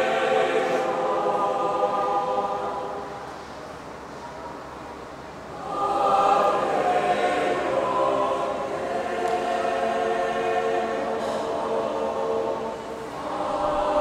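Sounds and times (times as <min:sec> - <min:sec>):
church choir singing: 0:00.0 - 0:04.5, 0:05.3 - 0:14.0.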